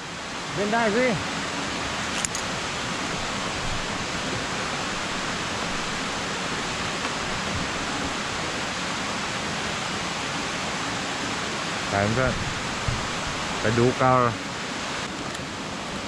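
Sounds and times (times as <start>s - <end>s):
waterfall over rocks: 0.0s - 16.0s.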